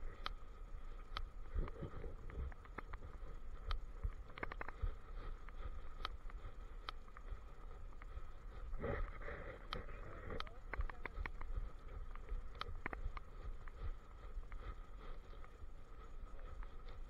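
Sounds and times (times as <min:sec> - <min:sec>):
light clicks and taps: 0:00.0 - 0:08.6, 0:09.6 - 0:17.0
faint high hum: 0:00.0 - 0:17.0.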